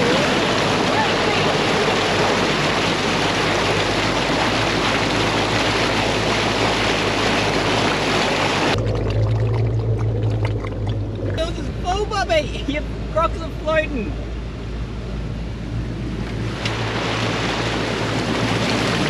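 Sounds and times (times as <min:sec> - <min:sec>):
vehicle engine humming: 0:00.0 - 0:19.0
water rushing and splashing: 0:00.0 - 0:19.0.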